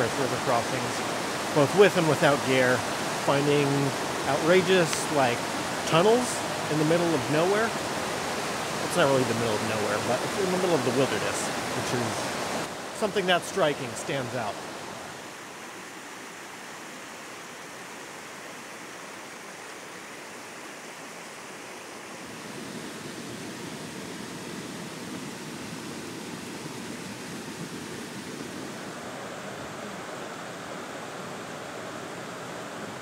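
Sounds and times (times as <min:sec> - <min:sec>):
river water rushing over rocks: 0:00.0 - 0:33.0.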